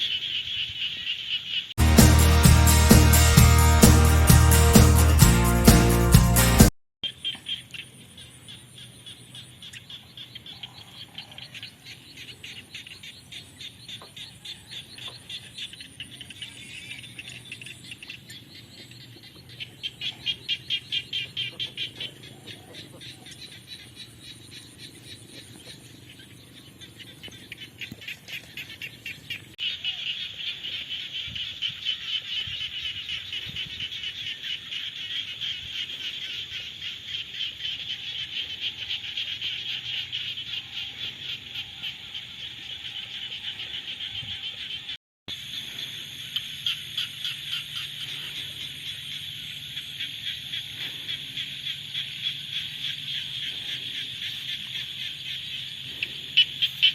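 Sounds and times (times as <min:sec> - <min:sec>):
frogs chorus trilling: 0:00.0 - 0:01.8, 0:07.0 - 0:56.9.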